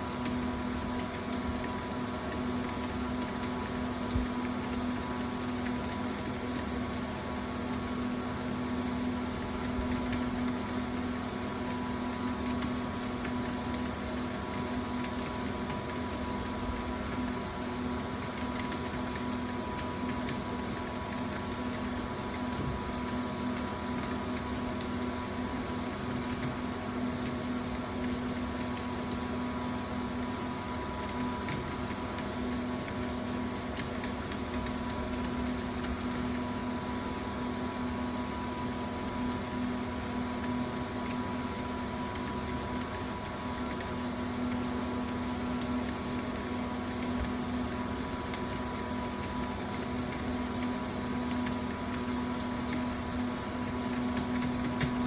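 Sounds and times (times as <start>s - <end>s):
mechanical hum with low drone: 0.0s - 55.0s.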